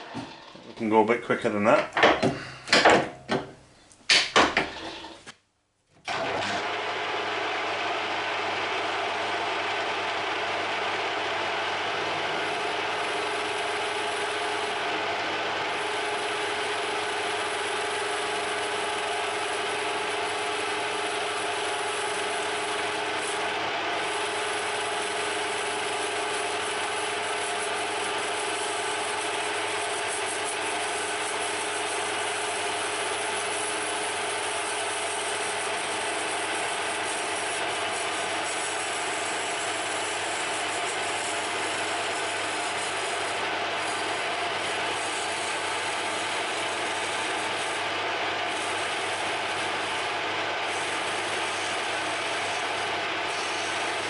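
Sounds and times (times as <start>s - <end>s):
metal lathe cutting brass: 6.1s - 54.0s.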